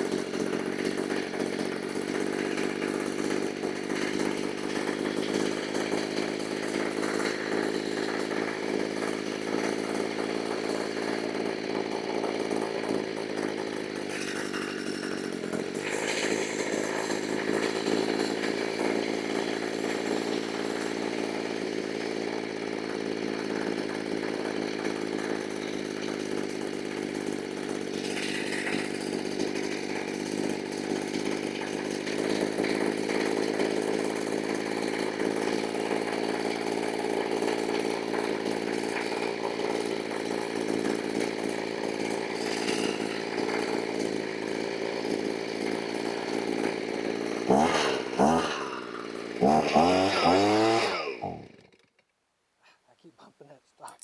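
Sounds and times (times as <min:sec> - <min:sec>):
leaf blower engine revving: 0:00.0 - 0:54.0.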